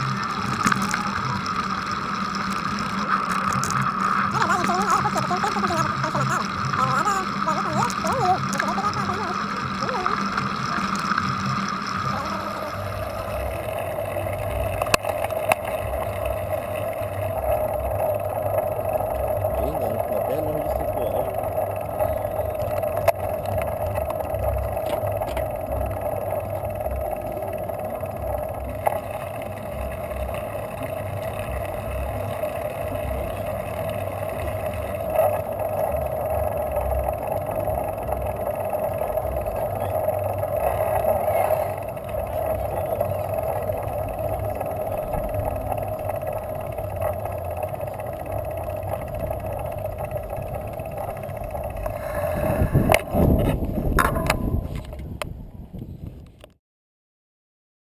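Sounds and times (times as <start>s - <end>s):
steady mid-pitched hum: 0.0s - 55.7s
bicycle road noise: 0.0s - 56.6s
wind rumbling on microphone: 0.0s - 56.6s.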